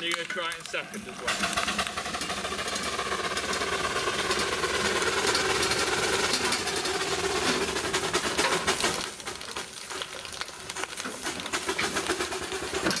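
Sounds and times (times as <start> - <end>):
steam engine mechanical beat: 0.0 - 13.0.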